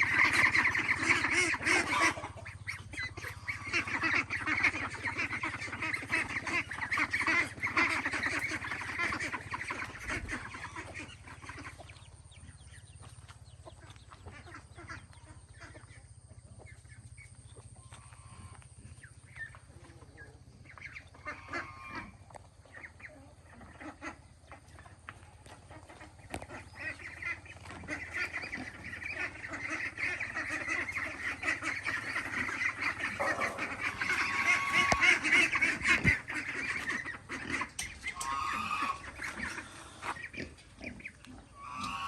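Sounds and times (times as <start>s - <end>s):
flock of ducks calling: 0.0s - 42.0s.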